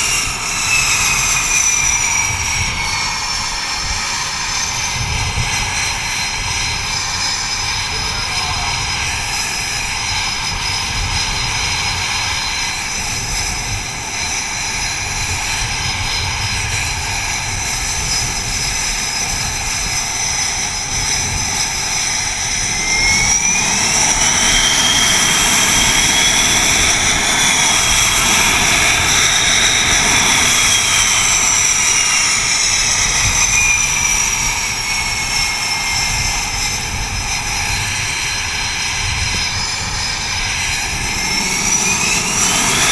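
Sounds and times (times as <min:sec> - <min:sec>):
jet engine whine spooling up: 0:00.0 - 0:42.9
jet engines roaring: 0:00.0 - 0:42.9.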